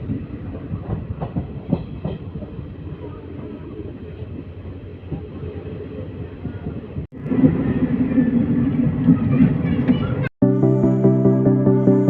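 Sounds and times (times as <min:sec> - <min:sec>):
train rumbling on track: 0:00.0 - 0:10.3.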